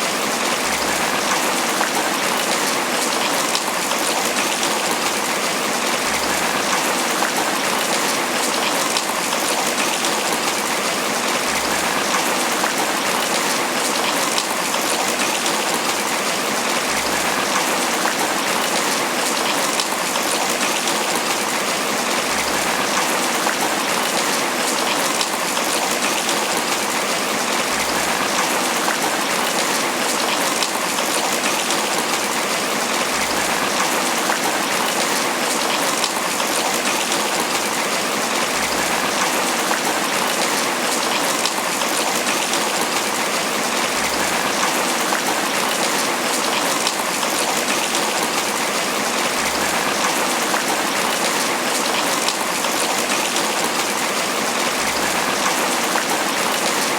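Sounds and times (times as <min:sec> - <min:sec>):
rain pattering on leaves: 0:00.0 - 0:56.9.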